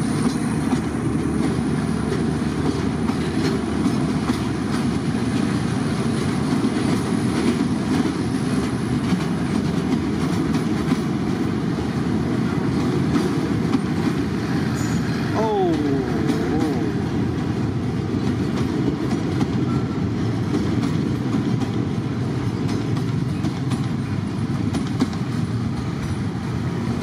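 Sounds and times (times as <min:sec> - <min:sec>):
train wheels rumbling on rails: 0:00.0 - 0:27.0
wheels clicking over rail joints: 0:00.0 - 0:27.0.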